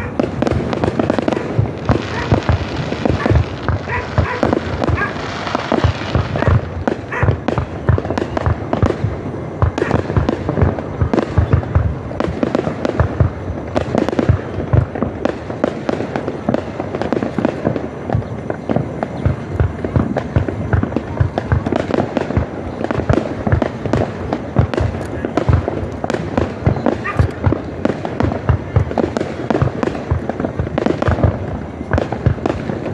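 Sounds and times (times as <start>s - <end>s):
fireworks bursting and booming: 0.0s - 32.9s.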